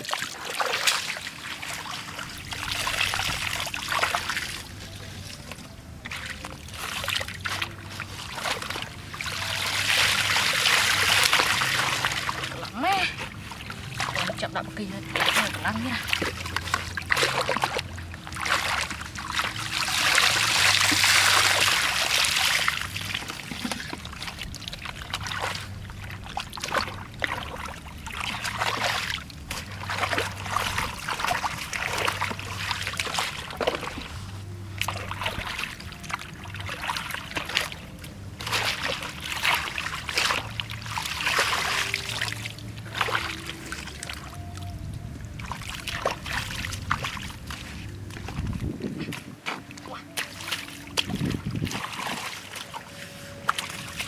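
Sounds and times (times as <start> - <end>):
shallow water splashing: 0.0 - 54.0.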